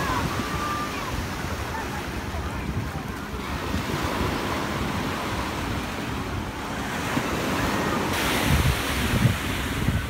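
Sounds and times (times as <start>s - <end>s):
small waves washing on sand: 0.0s - 10.0s
wind buffeting microphone: 0.0s - 10.0s.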